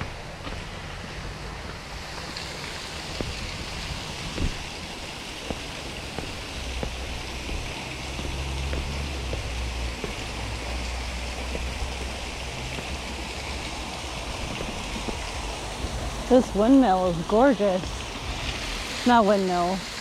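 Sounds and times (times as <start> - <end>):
low rumble: 0.0 - 19.0
waterfall rushing: 0.0 - 20.0.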